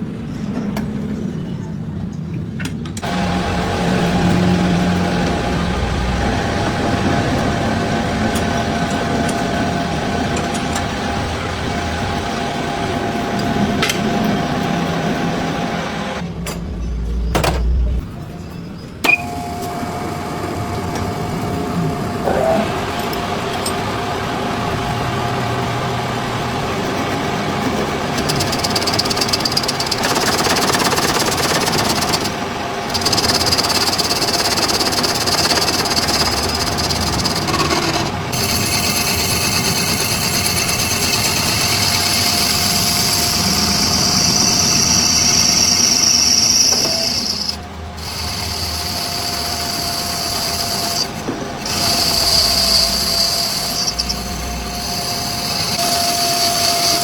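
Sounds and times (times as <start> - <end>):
workshop machinery running: 0.0 - 57.0
high-pitched machine whine: 3.0 - 57.0.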